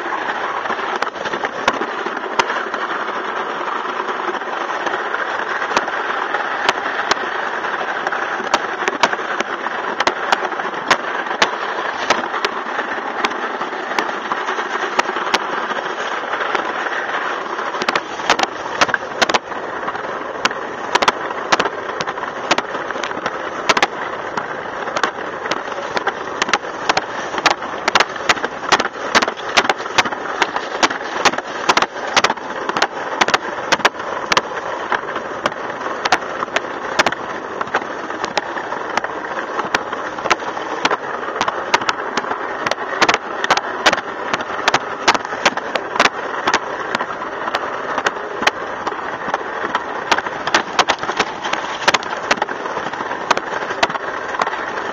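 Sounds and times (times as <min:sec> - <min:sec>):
sharp clicks and knocks: 0:00.0 - 0:54.9
sled scraping on concrete track: 0:00.0 - 0:54.9.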